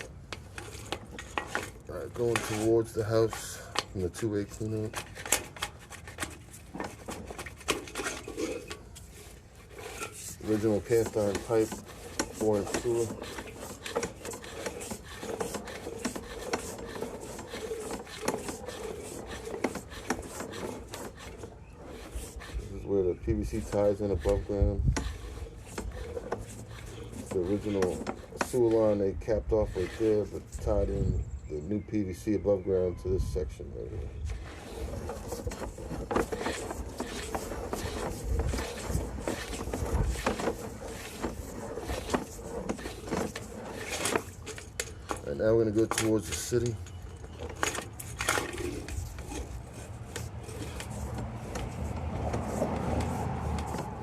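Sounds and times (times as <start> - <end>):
cable scraping inside metal pipe: 0.0 - 54.0.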